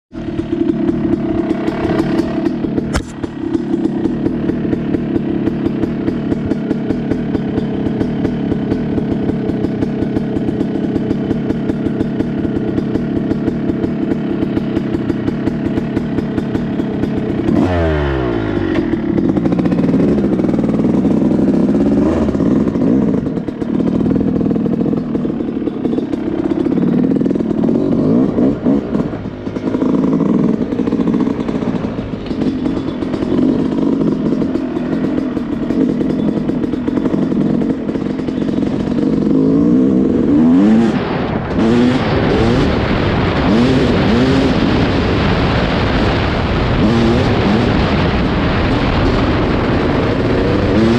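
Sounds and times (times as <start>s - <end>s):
dirtbike engine revving: 0.1s - 50.9s.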